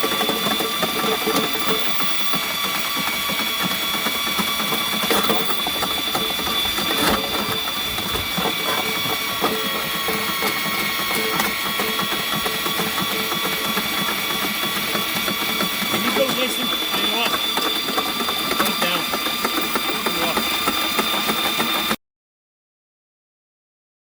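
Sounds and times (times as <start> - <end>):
drain snake motor running: 0.0 - 22.0.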